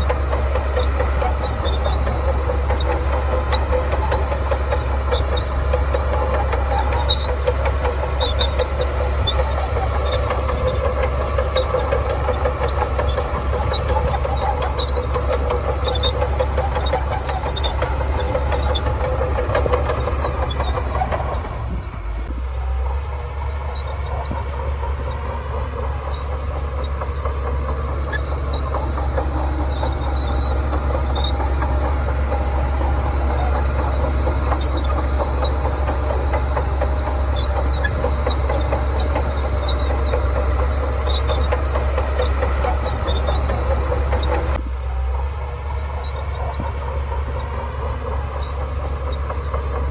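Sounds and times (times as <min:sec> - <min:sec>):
steel tracks clattering: 0:00.0 - 0:44.6, 0:45.5 - 0:49.9
bulldozer diesel engine running: 0:00.0 - 0:49.9.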